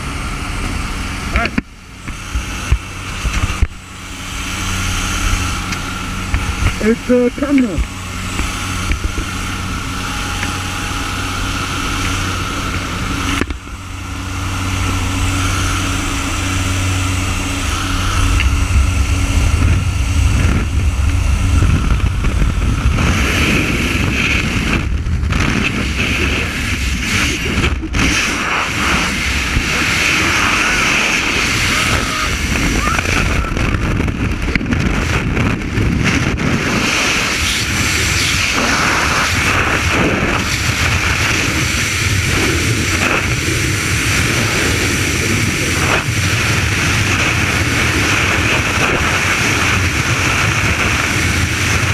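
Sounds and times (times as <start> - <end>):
turboprop engines droning: 0.0 - 51.9
wind rushing through open door: 0.0 - 51.9.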